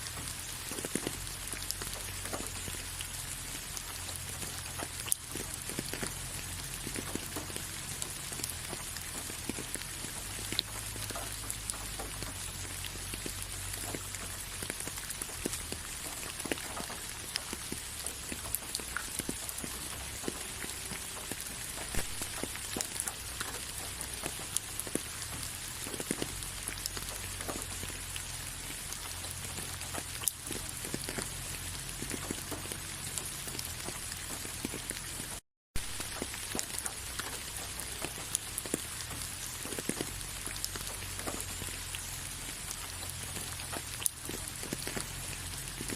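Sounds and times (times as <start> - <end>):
raindrops striking close by: 0.0 - 45.9
steady rain hiss: 0.0 - 45.9.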